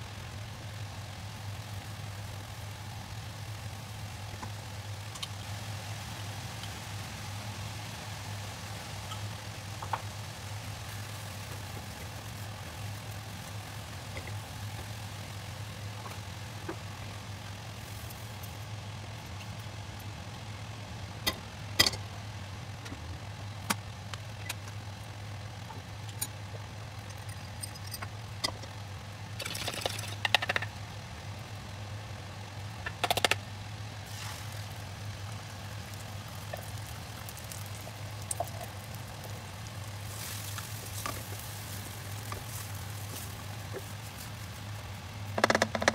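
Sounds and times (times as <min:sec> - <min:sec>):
egg frying in hot oil: 0:00.0 - 0:45.9
steady low hum: 0:00.0 - 0:45.9.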